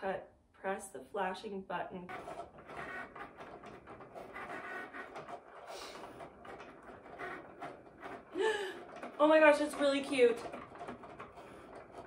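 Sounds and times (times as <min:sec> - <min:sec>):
cutting machine motors whirring: 0:02.1 - 0:12.0.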